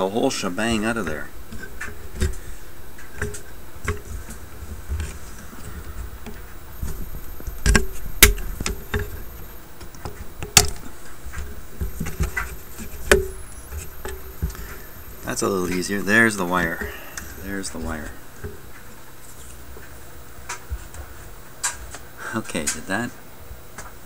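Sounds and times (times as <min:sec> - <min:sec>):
handling noise of stiff wiring: 0:00.0 - 0:22.0.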